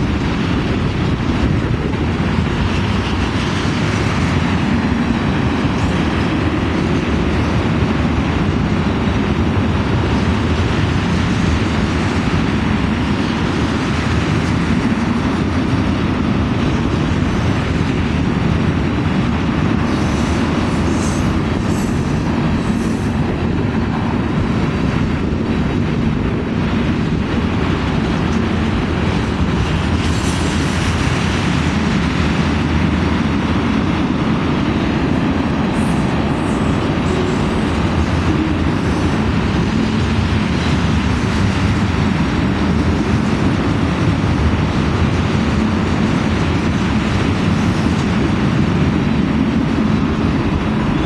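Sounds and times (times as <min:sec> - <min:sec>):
freight train wheels on rails: 0:00.0 - 0:51.0.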